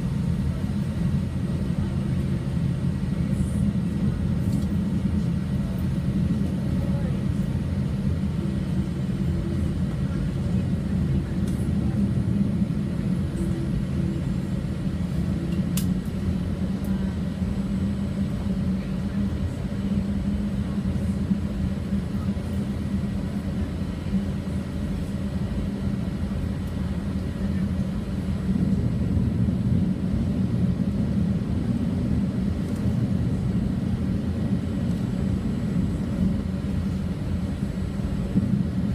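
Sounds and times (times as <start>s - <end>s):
airliner engines droning: 0.0s - 38.9s.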